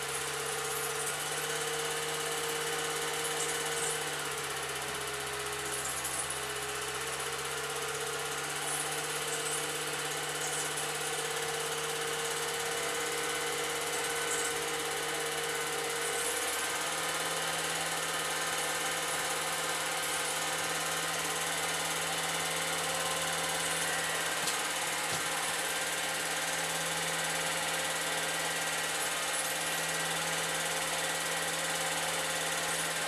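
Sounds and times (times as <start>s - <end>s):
film projector motor hum: 0.0s - 33.0s.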